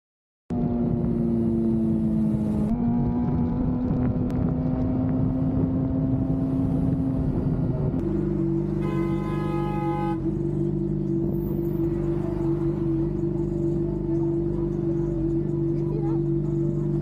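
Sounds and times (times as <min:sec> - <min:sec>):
motorcycle engine running: 0:00.5 - 0:17.0
wind and road noise: 0:00.5 - 0:17.0.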